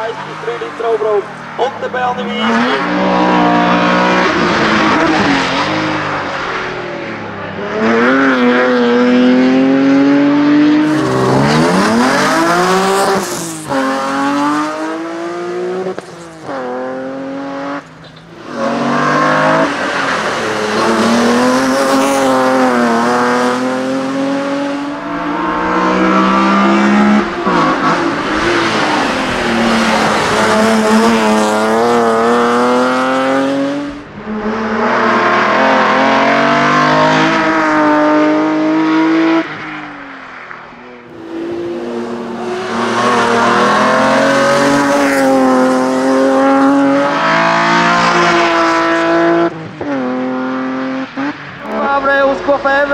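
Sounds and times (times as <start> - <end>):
race car engine revving: 0.0 - 40.0, 41.0 - 52.9.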